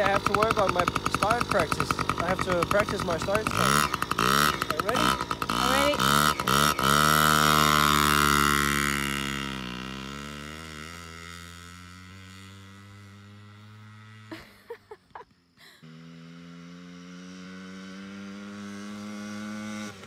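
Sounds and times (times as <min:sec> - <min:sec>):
dirt bike engine pulling away: 0:00.0 - 0:20.0.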